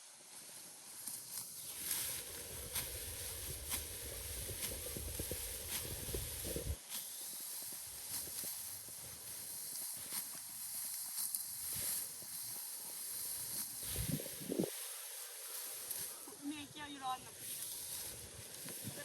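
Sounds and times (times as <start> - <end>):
rustling straw: 0.0 - 19.0
sickle swishing through stalks: 0.3 - 19.0.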